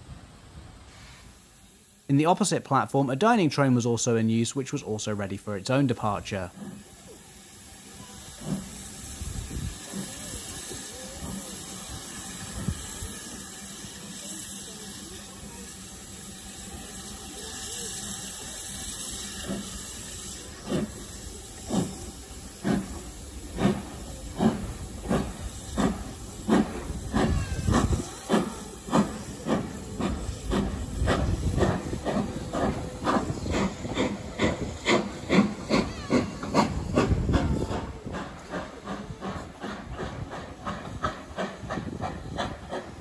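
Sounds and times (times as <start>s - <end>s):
steam hissing: 0.0s - 43.0s
steam locomotive exhaust chuffs: 3.8s - 43.0s.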